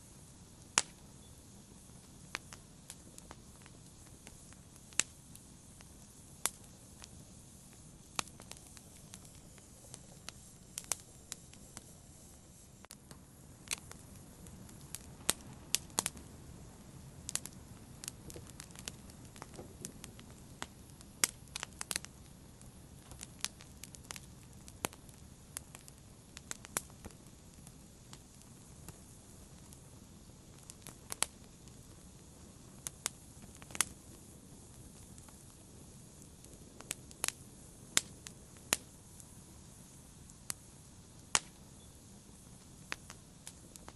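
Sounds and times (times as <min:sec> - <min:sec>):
hiss and rumble of burning: 0:00.0 - 0:43.9
wood fire crackling and popping: 0:00.0 - 0:43.9.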